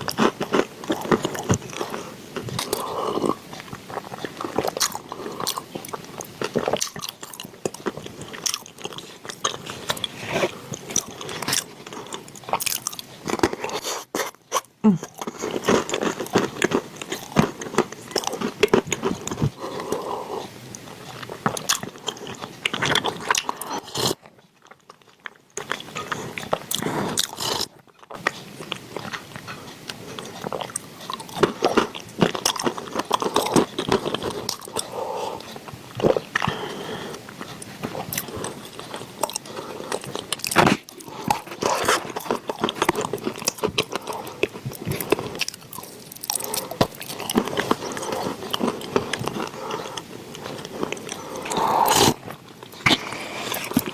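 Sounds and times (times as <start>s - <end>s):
crunching and chewing chalk: 0.0s - 53.9s.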